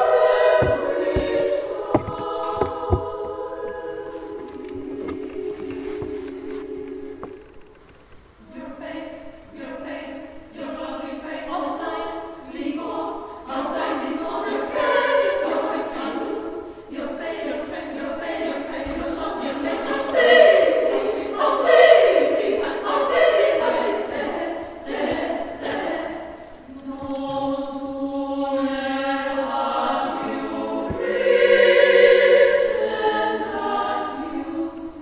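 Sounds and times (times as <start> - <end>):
women's choir singing: 0.0 - 7.8, 8.4 - 35.0.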